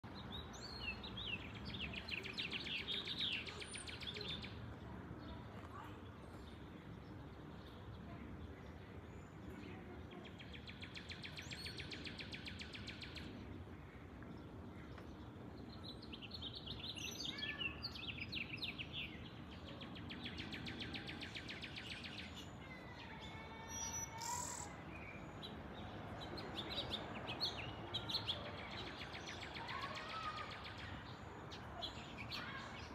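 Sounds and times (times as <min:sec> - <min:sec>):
songbirds trilling and chirping: 0:00.0 - 0:32.9.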